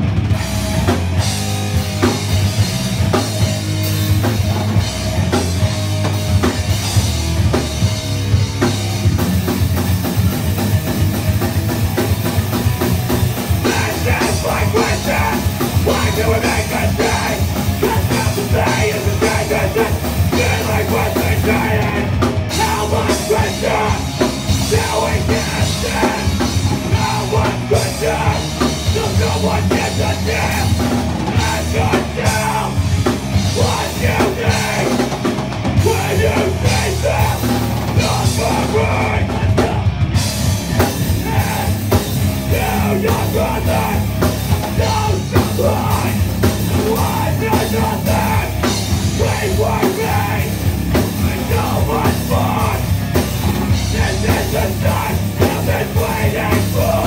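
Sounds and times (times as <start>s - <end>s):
hardcore band playing live: 0.0s - 57.0s.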